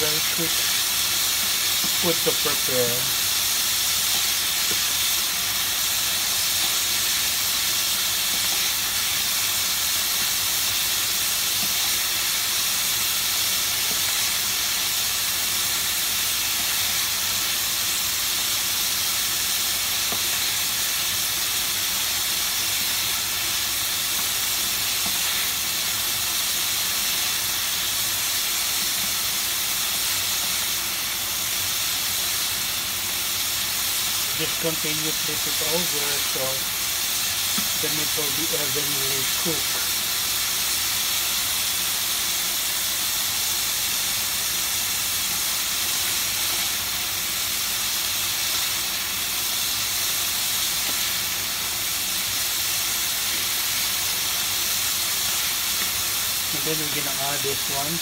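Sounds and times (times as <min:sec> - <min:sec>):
chicken frying in oil: 0:00.0 - 0:58.0.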